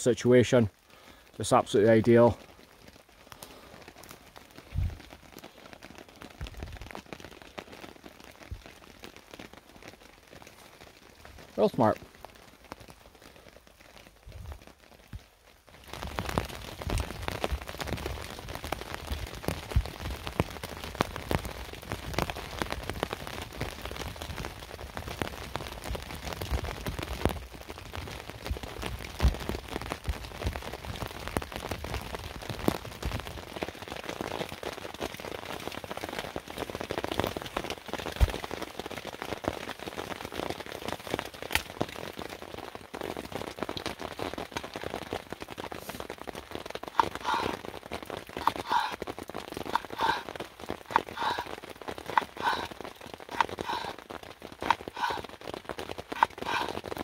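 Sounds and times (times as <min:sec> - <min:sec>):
raindrops striking close by: 0:00.0 - 0:57.0
steady rain: 0:00.0 - 0:57.0.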